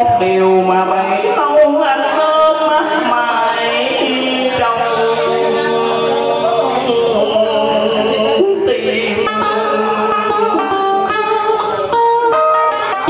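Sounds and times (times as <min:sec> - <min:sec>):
plucked string instrument sliding notes: 0:01.7 - 0:13.0.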